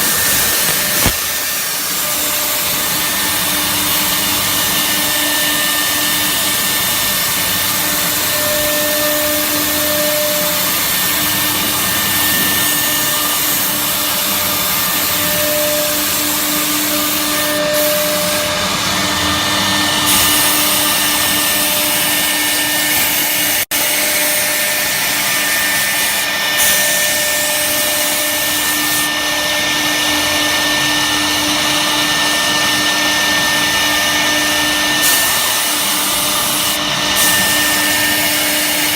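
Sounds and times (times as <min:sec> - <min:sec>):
router spindle milling wood: 0:00.0 - 0:38.9.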